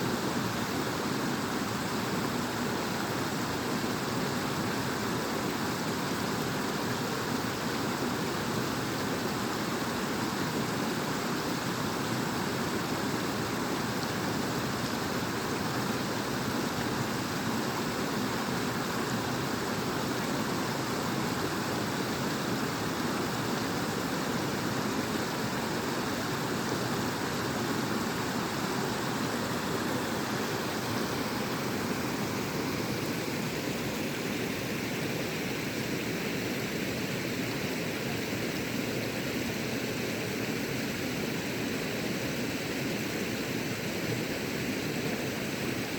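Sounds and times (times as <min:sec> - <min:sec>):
waterfall rushing: 0:00.1 - 0:41.6.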